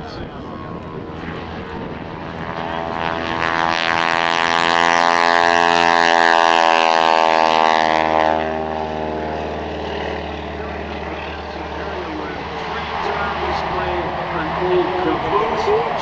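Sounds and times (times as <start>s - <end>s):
propeller plane passing: 0.0s - 16.0s.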